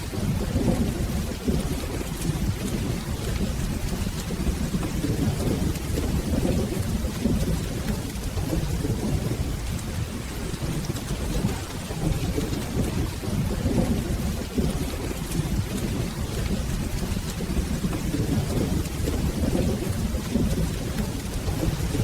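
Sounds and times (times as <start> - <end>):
rolling thunder: 0.0 - 22.0
steady rainfall: 0.0 - 22.0
ticks of raindrops: 0.0 - 22.0.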